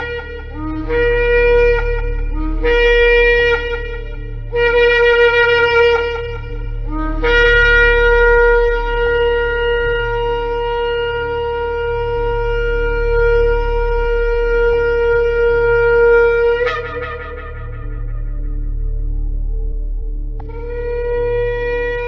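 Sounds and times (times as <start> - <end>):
shofar blast: 0.0 - 19.0
low steady hum: 0.0 - 22.0.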